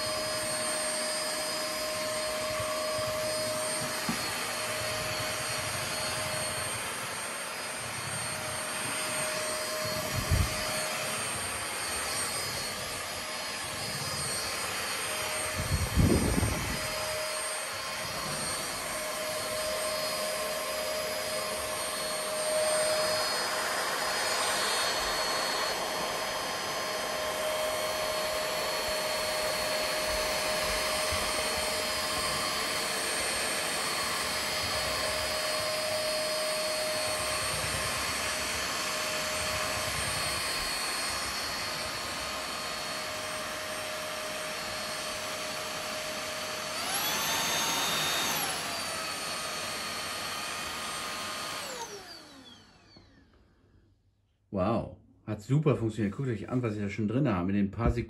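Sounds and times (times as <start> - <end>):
stick vacuum motor whine: 0.0 - 53.5.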